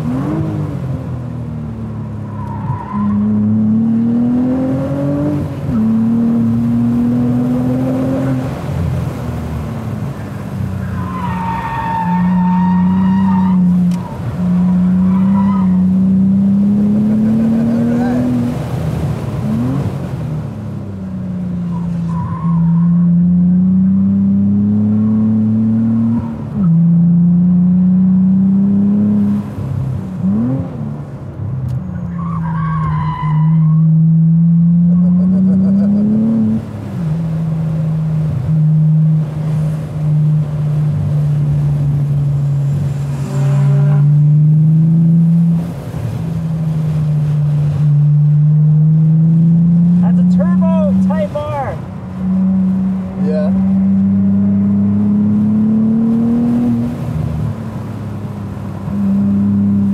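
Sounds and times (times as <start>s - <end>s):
car engine accelerating hard: 0.0s - 31.1s, 32.8s - 59.9s.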